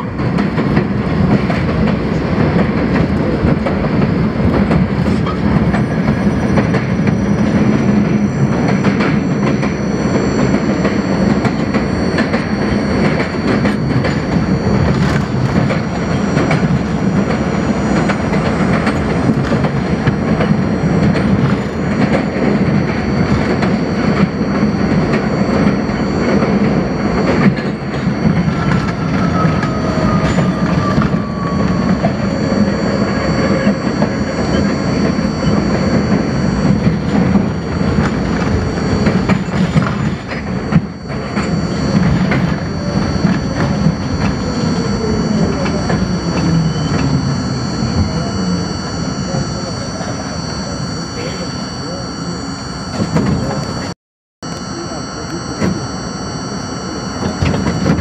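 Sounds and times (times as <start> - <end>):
subway train wheels clattering: 0.0 - 47.3.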